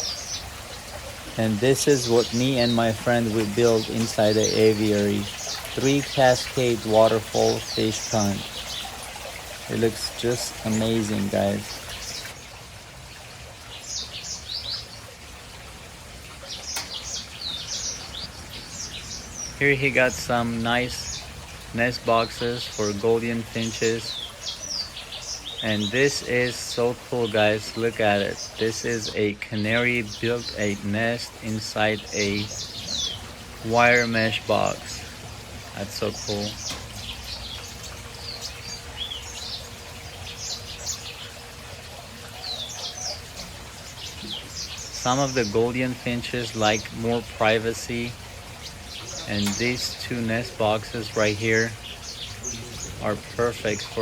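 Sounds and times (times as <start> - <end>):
small birds chirping: 0.0 - 54.0
steady low background noise: 0.0 - 54.0
waterfall splashing: 0.0 - 54.0.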